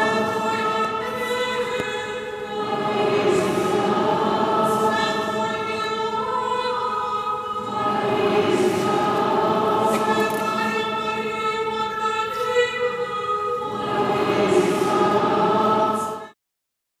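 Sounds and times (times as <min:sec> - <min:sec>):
choir singing sustained chords: 0:00.0 - 0:16.4.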